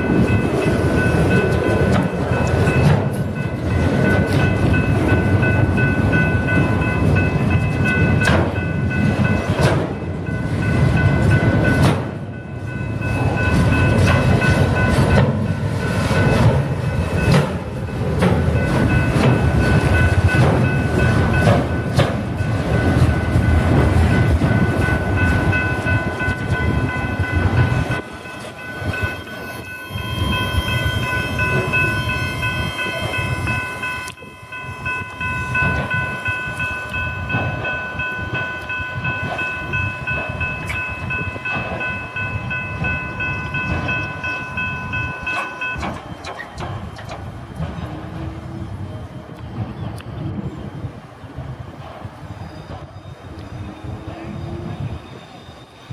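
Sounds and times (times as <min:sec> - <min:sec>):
steady high ringing: 0:00.0 - 0:49.3
train wheels rumbling on rails: 0:00.0 - 0:55.9.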